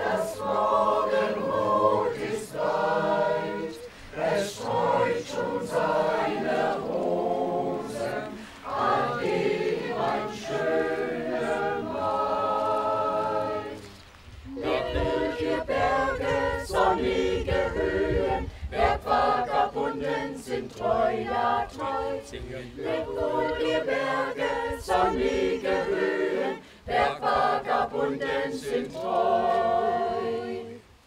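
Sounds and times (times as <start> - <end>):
choir singing a cappella: 0.0 - 31.0.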